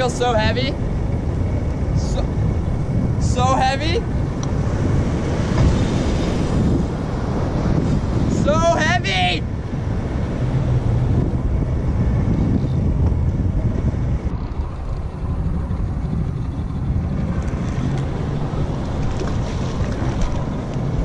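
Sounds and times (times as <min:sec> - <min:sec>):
water and boat noise: 0:00.0 - 0:21.0
wind buffeting microphone: 0:00.0 - 0:21.0.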